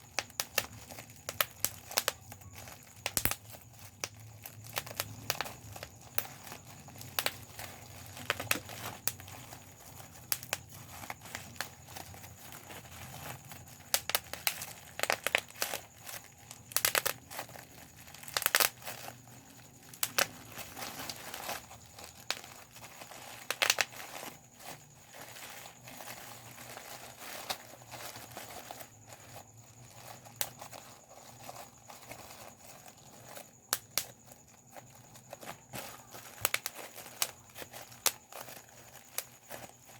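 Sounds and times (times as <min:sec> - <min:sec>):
bubble wrap popping: 0:00.0 - 0:39.9
plastic sheet crinkling: 0:00.0 - 0:39.9.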